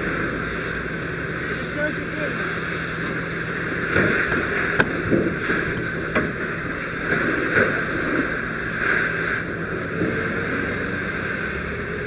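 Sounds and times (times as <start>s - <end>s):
fire hose water spraying: 0.0s - 12.0s
low engine hum: 0.0s - 12.0s.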